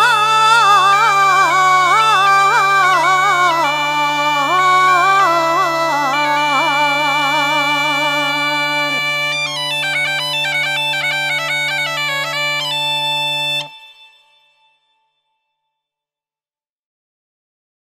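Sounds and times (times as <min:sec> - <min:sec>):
bagpipe drone: 0:00.0 - 0:15.0
bagpipe chanter melody: 0:00.0 - 0:15.3.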